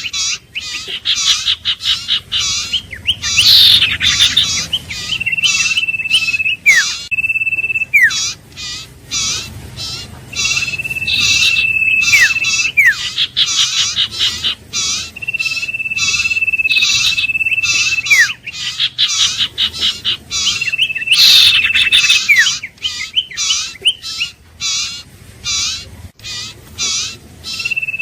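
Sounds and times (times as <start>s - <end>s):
bird short repeated chirps: 0.0s - 24.3s
bird trilled whistles: 0.0s - 24.9s, 25.6s - 28.0s.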